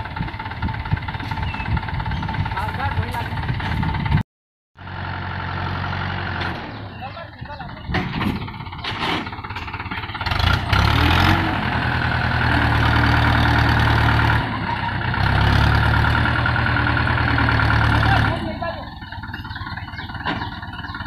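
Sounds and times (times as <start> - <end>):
tractor diesel engine working hard: 0.0 - 4.2, 4.8 - 21.0.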